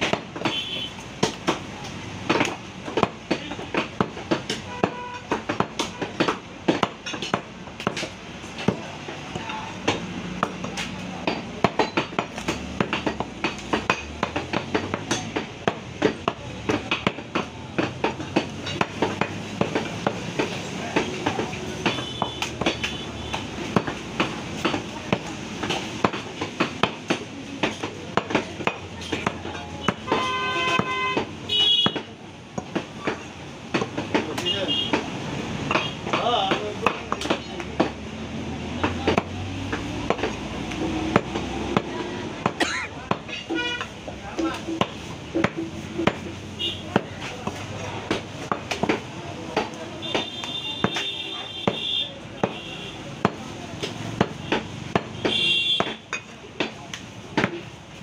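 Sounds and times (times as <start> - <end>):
cleaver chopping on wooden block: 0.0 - 0.6, 1.2 - 9.2, 9.8 - 35.1, 35.7 - 38.0, 38.8 - 56.8, 57.4 - 57.7.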